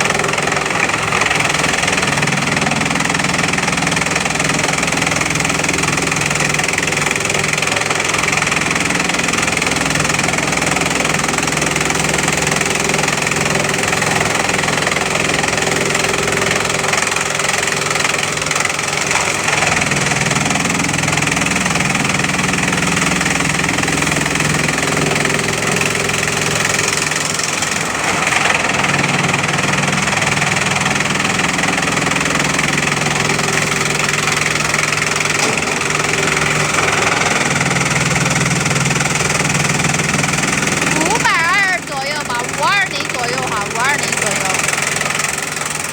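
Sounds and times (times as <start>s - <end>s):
chipping machine and conveyor running: 0.0s - 45.9s.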